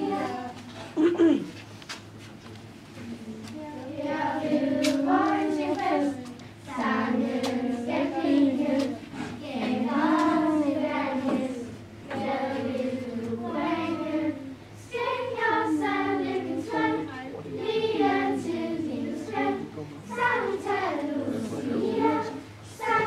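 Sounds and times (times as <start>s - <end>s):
girls' choir singing: 0.0s - 0.6s, 3.8s - 23.0s.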